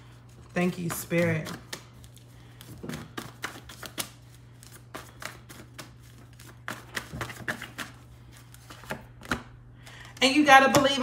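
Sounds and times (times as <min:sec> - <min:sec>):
cards being shuffled: 0:00.1 - 0:10.2.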